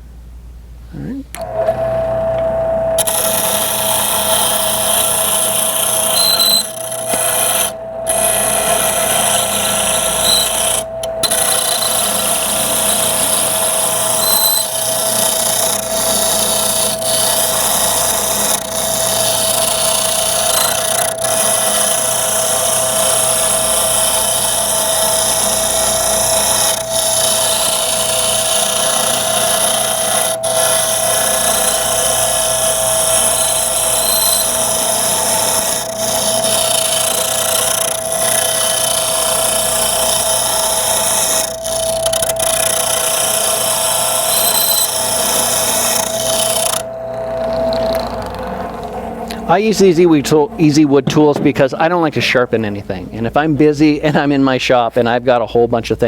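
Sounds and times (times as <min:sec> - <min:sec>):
wood lathe humming: 0:01.4 - 0:54.5
turning tool scraping wood: 0:01.4 - 0:55.1.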